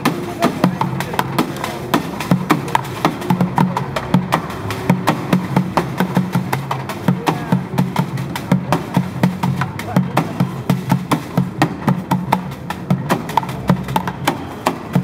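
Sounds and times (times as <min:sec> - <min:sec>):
drumming on plastic pails: 0:00.0 - 0:15.0.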